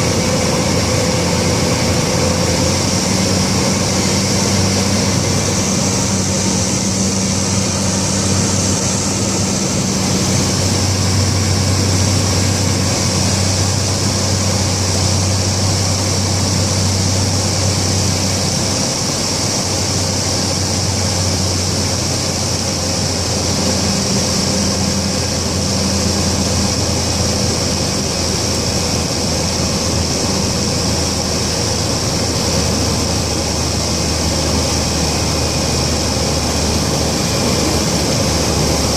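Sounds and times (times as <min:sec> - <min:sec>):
turboprop engine drone: 0:00.0 - 0:38.9.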